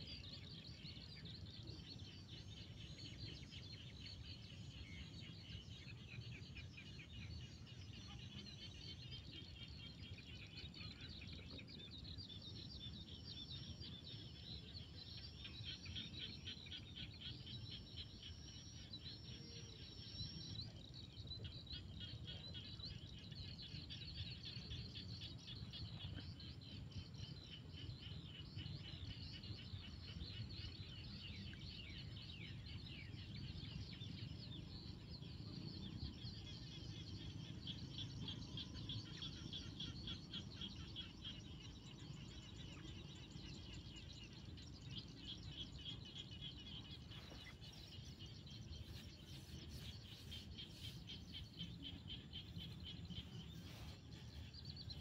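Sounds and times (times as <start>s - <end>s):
frogs trilling in chorus: 0.0s - 55.0s.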